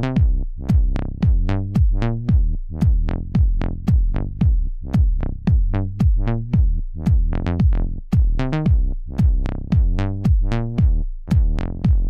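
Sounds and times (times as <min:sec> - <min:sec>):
electronic music with drum machine: 0:00.0 - 0:12.0.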